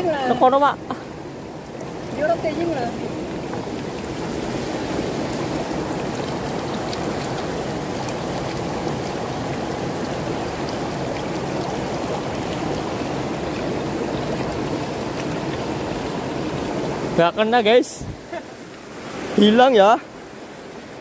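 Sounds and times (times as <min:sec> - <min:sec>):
stream water rushing over stones: 0:00.0 - 0:21.0.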